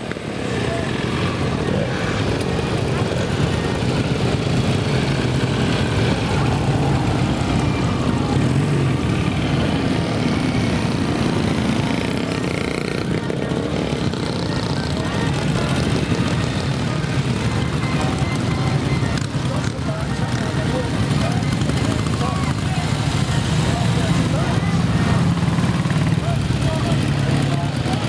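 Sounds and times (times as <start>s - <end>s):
motorcycle engines passing: 0.0s - 28.0s.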